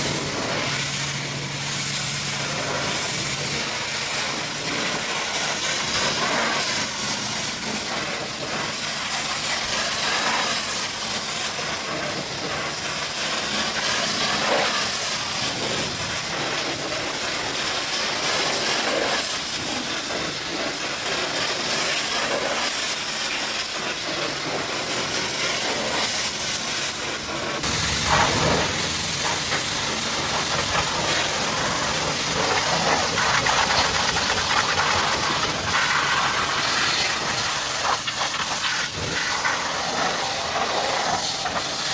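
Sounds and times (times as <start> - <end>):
pressure washer spraying water: 0.0 - 41.9.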